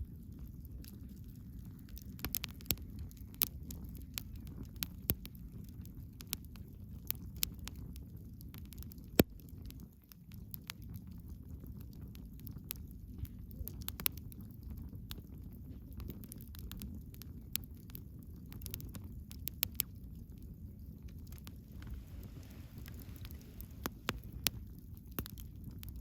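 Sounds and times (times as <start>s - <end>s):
bonfire crackling and popping: 0.0s - 26.0s
low fire rumble: 0.0s - 26.0s.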